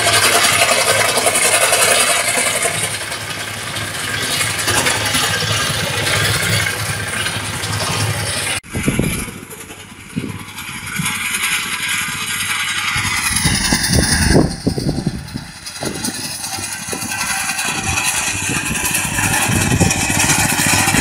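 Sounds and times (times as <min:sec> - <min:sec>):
mowing machine engine rattling: 0:00.0 - 0:21.0
uneven low rumbling: 0:00.0 - 0:21.0.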